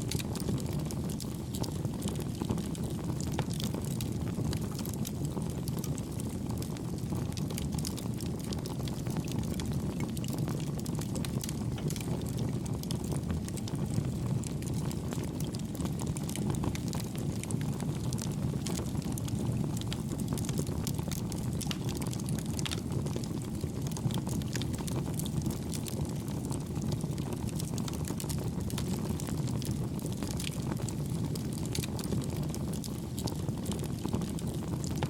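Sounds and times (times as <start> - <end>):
campfire flames rumbling: 0.0 - 35.0
fire crackles and pops: 0.0 - 35.0.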